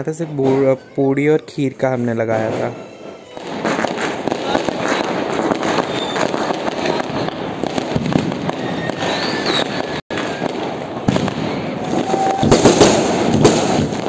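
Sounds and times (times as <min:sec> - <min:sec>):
fireworks crackling and popping: 0:00.0 - 0:14.0
ground fountain firework spraying: 0:00.0 - 0:14.0.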